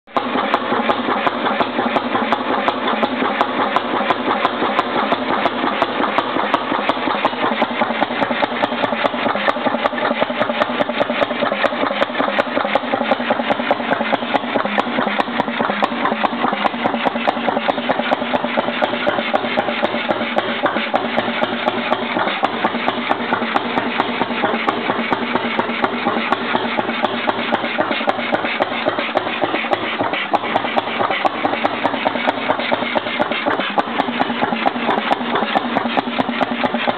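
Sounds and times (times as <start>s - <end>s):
two-stroke stationary engine running: 0.1s - 36.9s.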